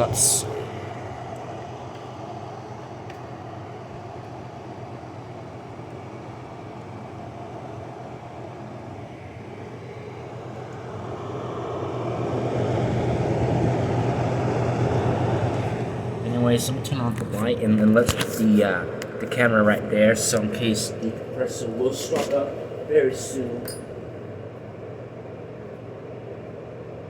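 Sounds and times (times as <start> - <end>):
air conditioner fan running: 0.0 - 27.0.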